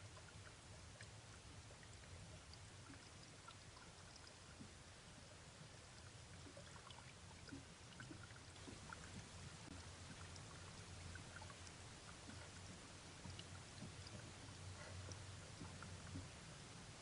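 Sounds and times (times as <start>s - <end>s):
faint steady hiss: 0.0s - 17.0s
low hum: 0.0s - 17.0s.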